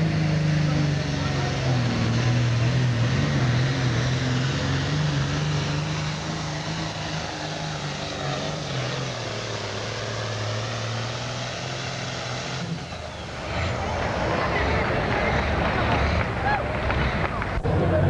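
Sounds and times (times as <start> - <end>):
tractor engine running hard: 0.0 - 18.0.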